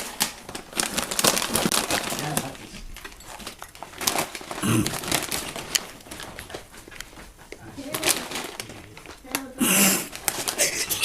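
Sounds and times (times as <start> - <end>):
snack bag crinkling: 0.0 - 6.7, 7.8 - 11.0.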